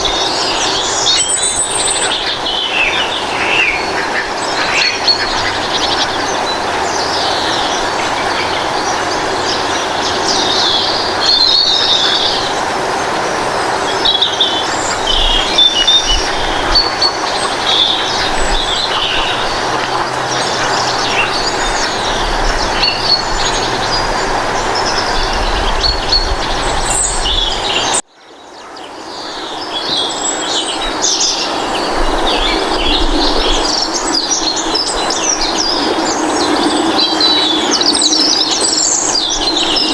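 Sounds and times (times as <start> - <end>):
steady rushing noise: 0.0 - 28.0, 29.1 - 39.9
small birds chirping: 0.0 - 39.9.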